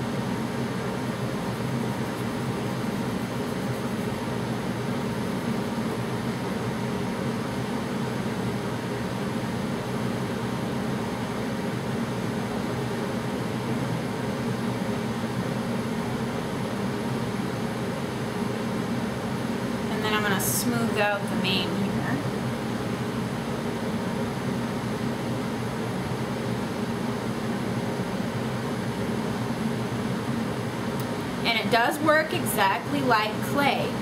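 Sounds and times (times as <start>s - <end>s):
room heater running: 0.0s - 34.0s.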